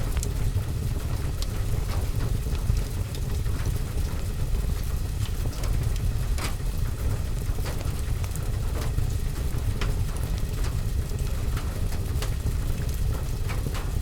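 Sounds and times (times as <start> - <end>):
rain on a window: 0.0 - 14.0
wood fire crackling: 0.0 - 14.0.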